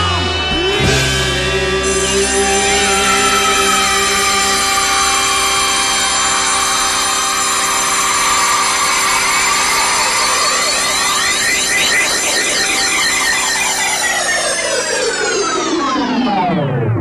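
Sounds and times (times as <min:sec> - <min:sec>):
electronic drone with swirling sweep: 0:00.0 - 0:17.0.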